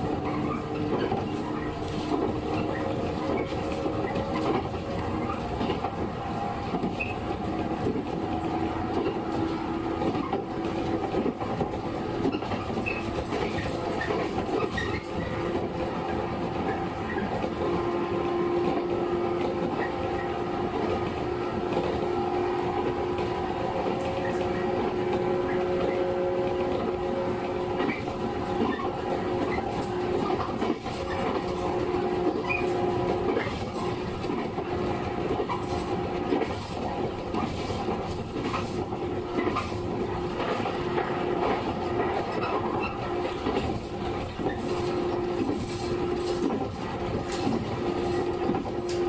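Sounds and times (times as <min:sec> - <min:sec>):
train motor hum: 0:00.0 - 0:49.0
train wheels rumbling: 0:00.0 - 0:49.0
wheel clicks on rail: 0:00.0 - 0:49.0.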